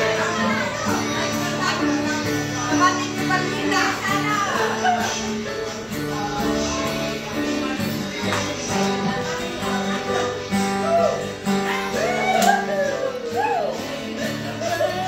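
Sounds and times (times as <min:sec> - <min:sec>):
music playing: 0:00.0 - 0:15.0.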